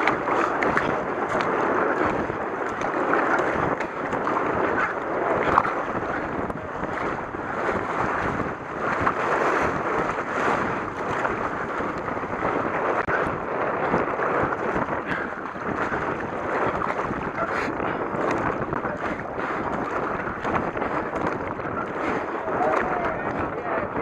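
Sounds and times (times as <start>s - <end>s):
paddle strokes splashing: 0.0s - 24.0s
rushing river water: 0.0s - 24.0s.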